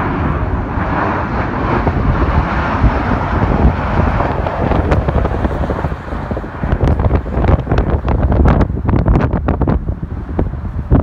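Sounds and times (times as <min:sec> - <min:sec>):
jet engines passing overhead: 0:00.0 - 0:11.0
wind buffeting microphone: 0:00.0 - 0:11.0.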